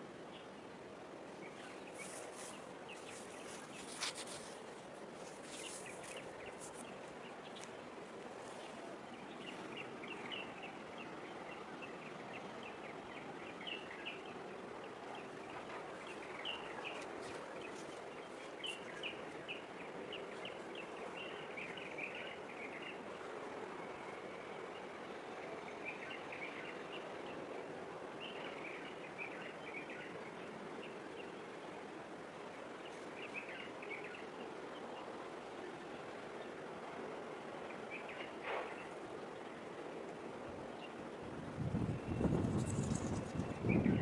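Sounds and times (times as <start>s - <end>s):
distant city hum: 0.0s - 44.0s
small birds chirping: 1.2s - 41.1s, 41.7s - 44.0s.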